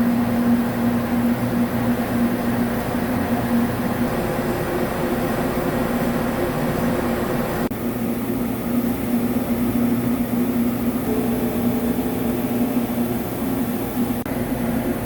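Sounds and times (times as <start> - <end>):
lathe machine hum: 0.0 - 15.0.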